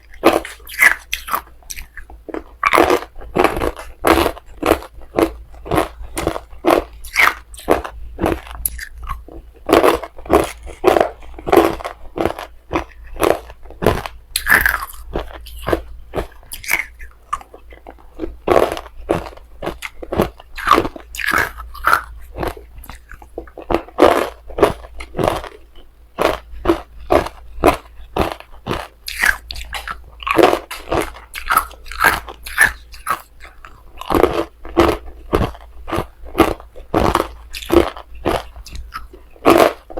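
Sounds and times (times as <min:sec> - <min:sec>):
chewing ice crunches: 0:00.0 - 0:25.6, 0:26.2 - 0:39.9.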